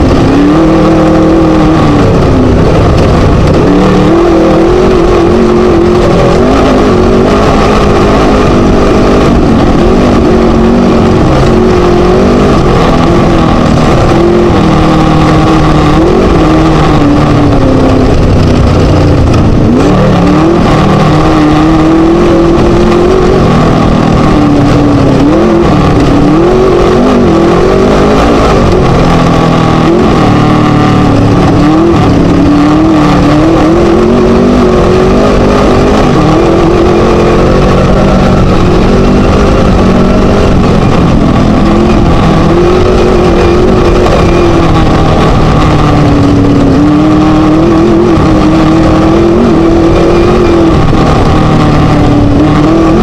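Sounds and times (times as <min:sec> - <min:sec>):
race buggy engine revving: 0:00.0 - 0:53.0.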